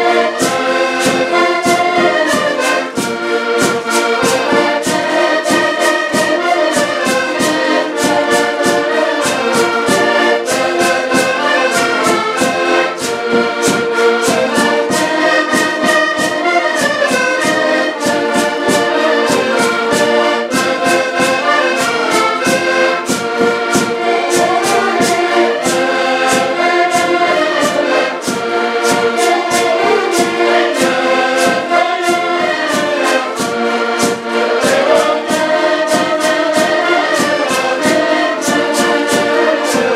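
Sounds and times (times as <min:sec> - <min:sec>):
accordions playing folk tune: 0:00.0 - 0:39.9
percussive beat: 0:00.0 - 0:39.9.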